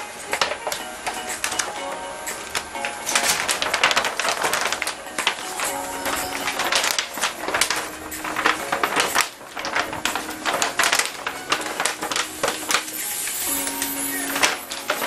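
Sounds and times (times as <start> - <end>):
plastic sleeve crackling: 0.0 - 15.0.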